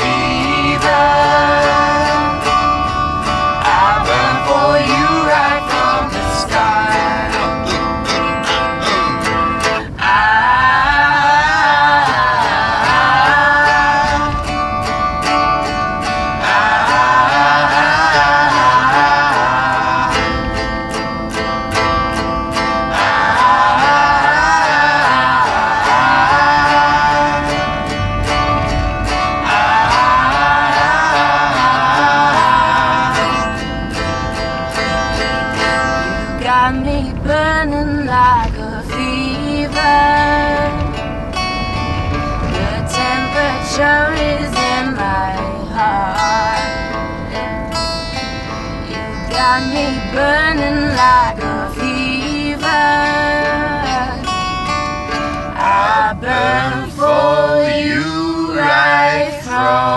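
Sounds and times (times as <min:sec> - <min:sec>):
person singing: 0:00.0 - 0:41.0, 0:42.4 - 0:47.8, 0:48.8 - 0:59.9
guitar and plucked strings: 0:00.0 - 0:59.9.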